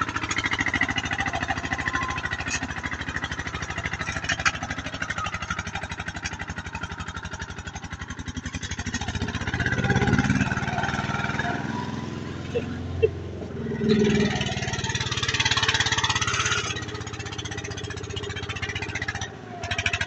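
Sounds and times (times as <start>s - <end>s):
diesel tractor engine chugging: 0.0s - 20.0s.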